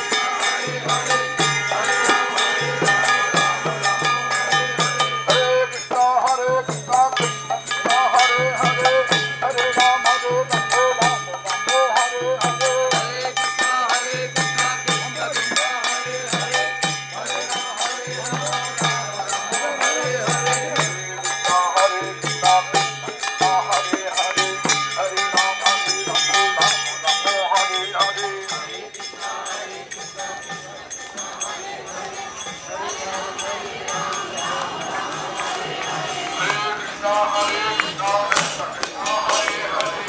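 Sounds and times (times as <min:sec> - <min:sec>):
drum beating steady rhythm: 0:00.0 - 0:40.0
hand cymbals ringing: 0:00.0 - 0:40.0
person chanting through megaphone: 0:00.0 - 0:40.0.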